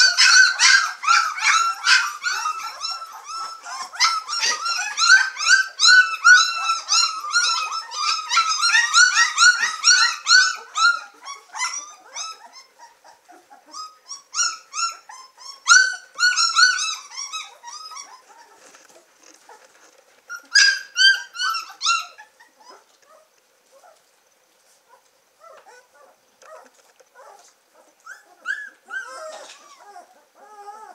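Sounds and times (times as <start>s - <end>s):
puppies squealing and whining: 0.0s - 24.1s, 24.8s - 30.9s.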